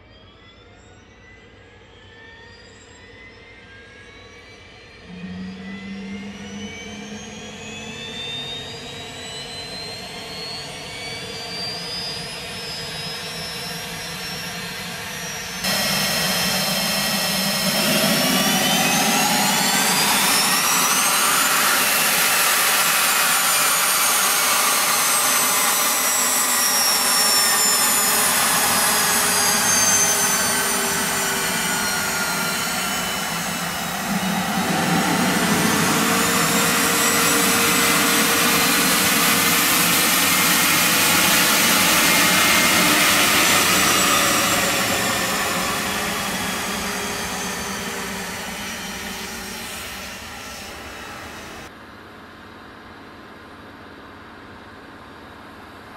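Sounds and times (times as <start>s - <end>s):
jet engines whining: 1.3s - 51.7s.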